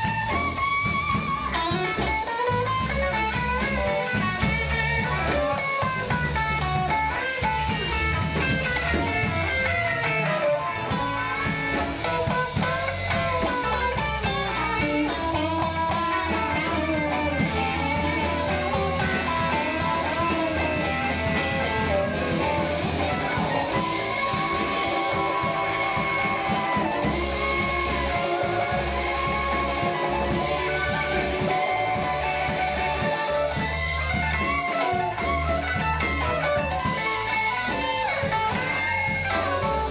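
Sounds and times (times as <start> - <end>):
live blues band: 0.0 - 39.9.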